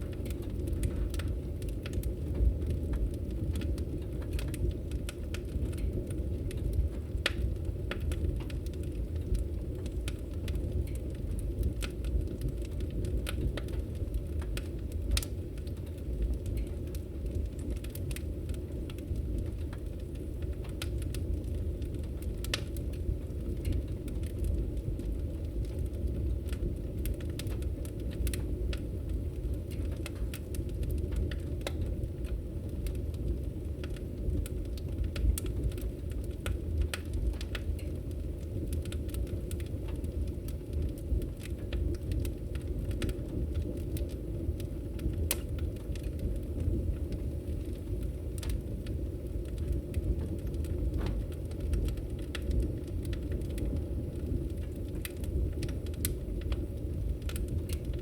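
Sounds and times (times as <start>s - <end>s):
fire flames rumbling: 0.0s - 58.0s
wood crackling and popping: 0.0s - 58.0s.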